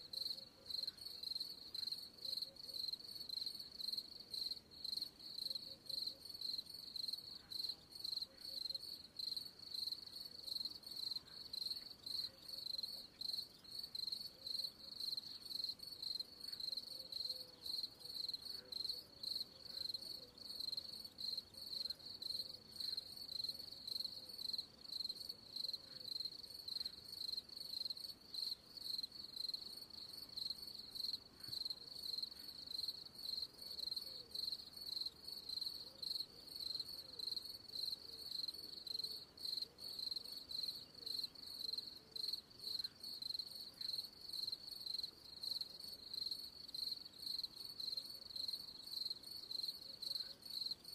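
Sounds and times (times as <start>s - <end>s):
cricket chirping: 0.0s - 50.9s.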